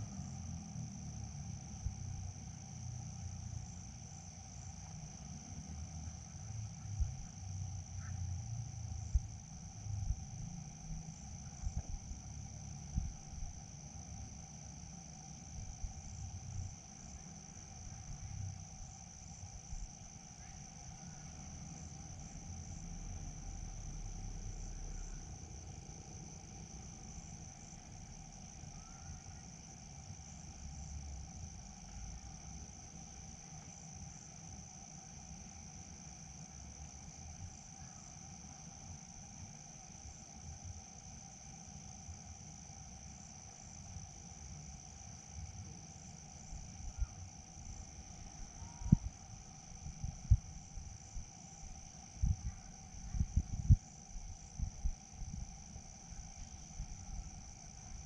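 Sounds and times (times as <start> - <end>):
crickets and insects chirring: 0.0 - 58.0.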